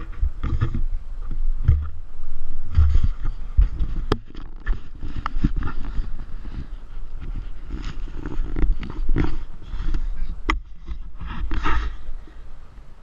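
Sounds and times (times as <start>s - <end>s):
low rumbling on microphone: 0.0s - 13.0s.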